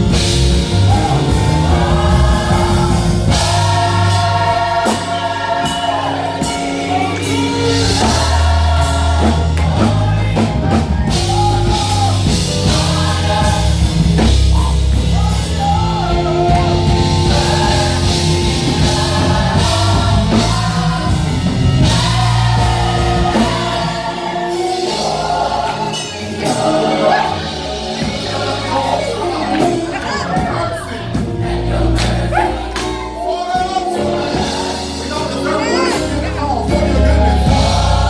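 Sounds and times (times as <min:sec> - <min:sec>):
bass: 0:00.0 - 0:38.0
choir singing in harmony: 0:00.0 - 0:38.0
drums: 0:00.0 - 0:38.0
live band playing: 0:00.0 - 0:38.0.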